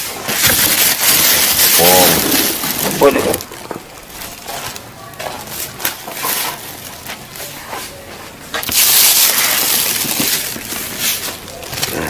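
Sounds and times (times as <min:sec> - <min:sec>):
rustling and handling noise: 0:00.0 - 0:12.0.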